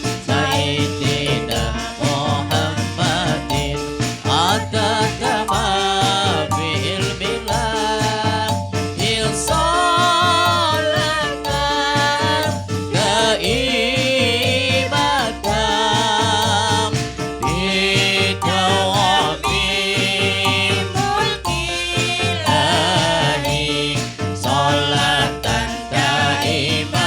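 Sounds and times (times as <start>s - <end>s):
low steady instrumental beat: 0.0s - 11.9s, 13.6s - 25.1s
person singing with vibrato: 0.0s - 27.0s.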